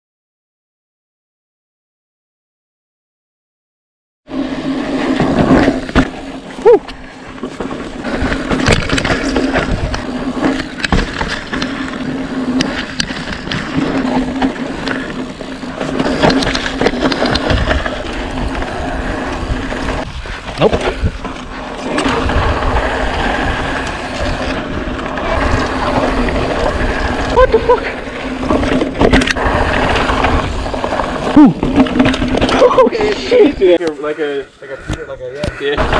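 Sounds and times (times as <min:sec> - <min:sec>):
bike rattling over bumps: 0:04.3 - 0:34.1, 0:35.3 - 0:35.9
tyres rolling on dirt: 0:04.3 - 0:35.9.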